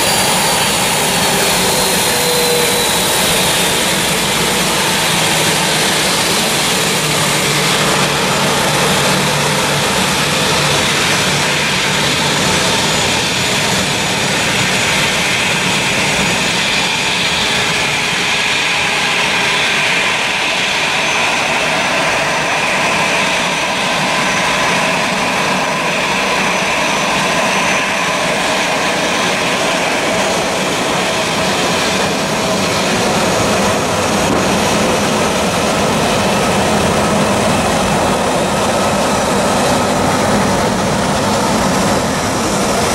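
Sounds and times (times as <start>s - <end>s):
jet engine roar with high whine: 0.0s - 42.9s.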